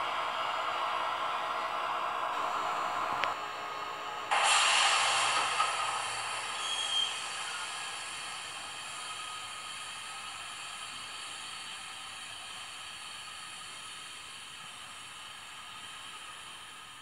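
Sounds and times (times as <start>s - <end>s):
hissing locomotive noise: 0.0s - 17.0s.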